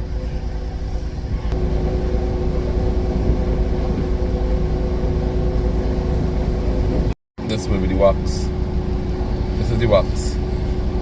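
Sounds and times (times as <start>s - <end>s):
car wash machinery rumbling: 0.0s - 11.0s
motor hum: 0.1s - 11.0s.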